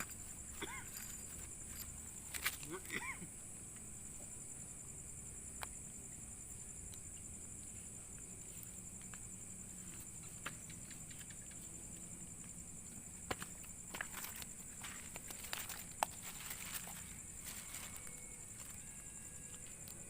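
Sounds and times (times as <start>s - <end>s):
night insects chorus: 0.0s - 20.0s.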